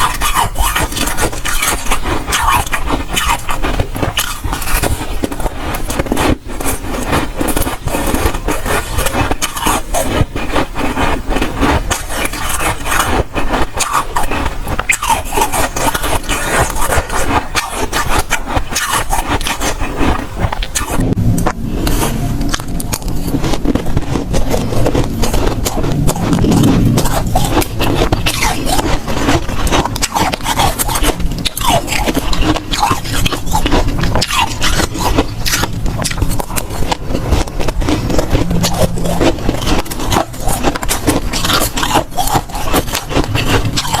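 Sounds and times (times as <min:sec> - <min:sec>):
chewing crunchy frost: 0:00.0 - 0:44.0.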